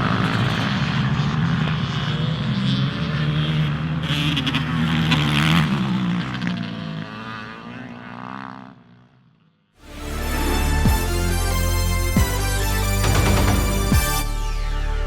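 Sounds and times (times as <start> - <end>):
racing motorcycle engines revving: 0.0 - 14.1.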